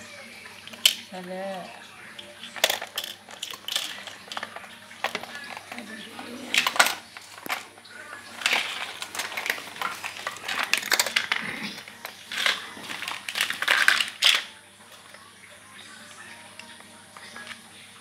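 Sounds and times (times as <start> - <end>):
plastic toy track clicking and clattering: 0.6 - 15.2.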